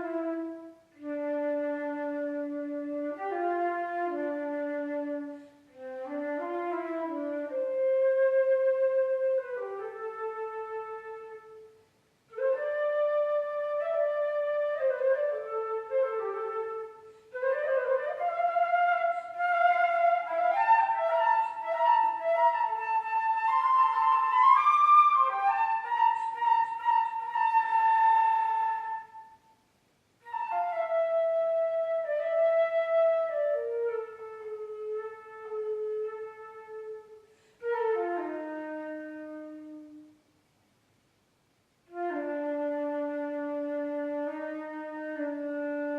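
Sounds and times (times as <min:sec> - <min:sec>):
flute playing slow melody: 0:00.0 - 0:29.6, 0:30.2 - 0:40.2, 0:41.9 - 0:45.9.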